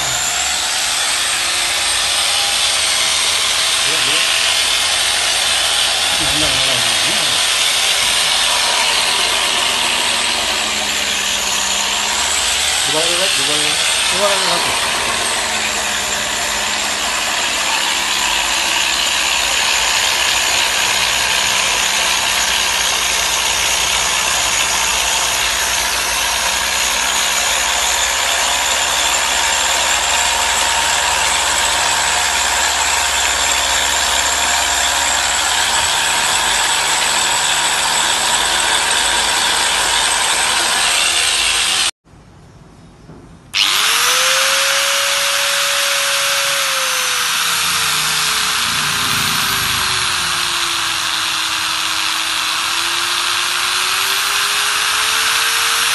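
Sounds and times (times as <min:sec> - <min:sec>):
angle grinder motor whine: 0:00.0 - 0:42.0, 0:43.6 - 0:55.9.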